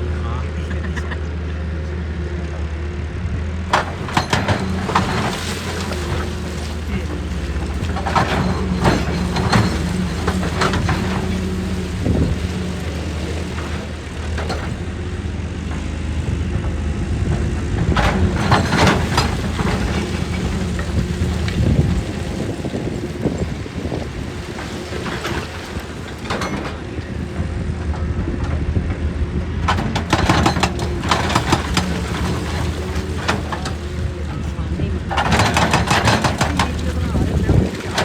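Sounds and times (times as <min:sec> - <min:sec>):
excavator engine running: 0:00.0 - 0:38.0
rattling and clattering: 0:03.7 - 0:38.0.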